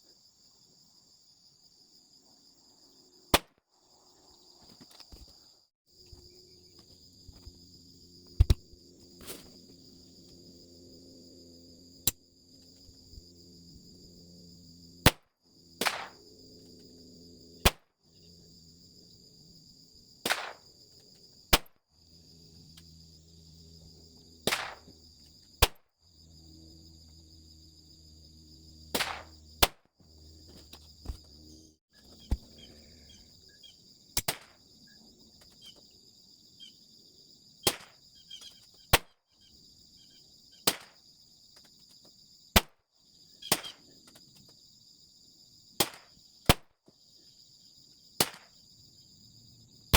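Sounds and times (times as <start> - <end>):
insects buzzing: 0.0 - 49.9.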